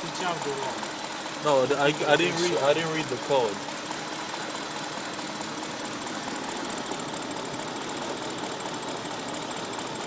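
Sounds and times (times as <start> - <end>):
car engine running with misfire: 0.0 - 10.0.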